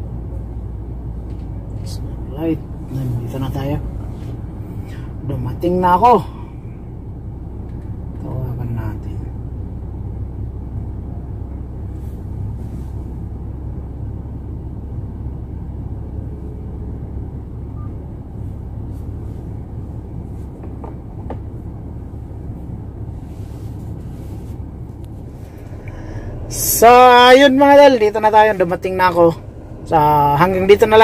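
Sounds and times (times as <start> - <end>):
car engine and tyres rumble: 0.0 - 31.0.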